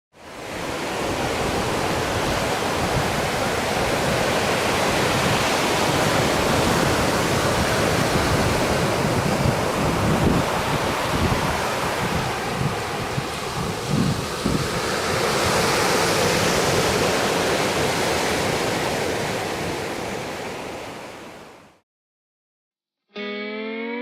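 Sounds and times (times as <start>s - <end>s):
ocean surf rushing: 0.2s - 21.6s.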